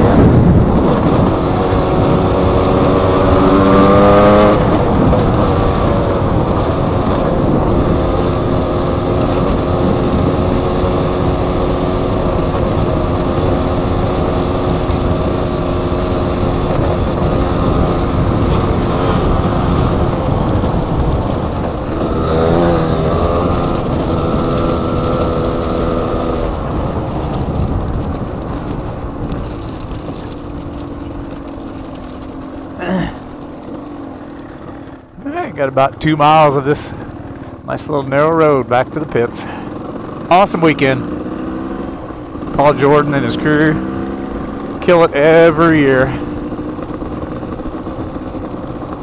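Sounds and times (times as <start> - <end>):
motorcycle engine running: 0.0 - 49.0
tyres on gravel: 0.0 - 49.0.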